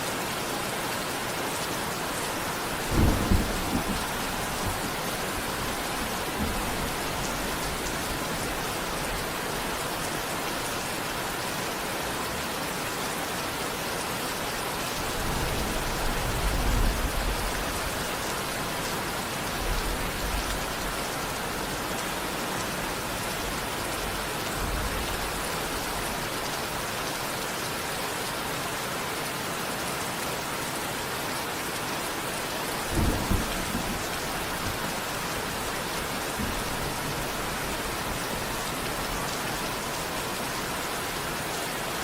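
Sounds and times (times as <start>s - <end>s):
rain falling: 0.0s - 42.0s.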